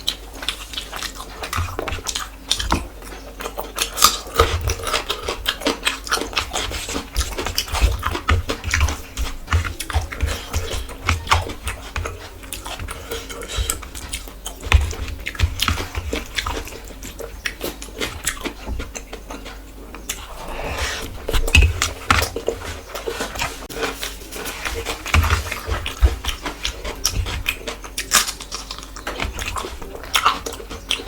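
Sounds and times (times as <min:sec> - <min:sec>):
chewing and mouth smacking: 0:00.0 - 0:31.0.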